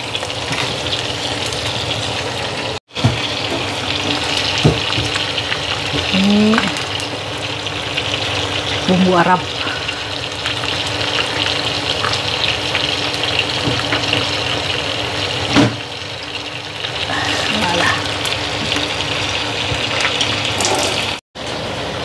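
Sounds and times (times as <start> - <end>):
chicken frying in pan: 0.0 - 22.0.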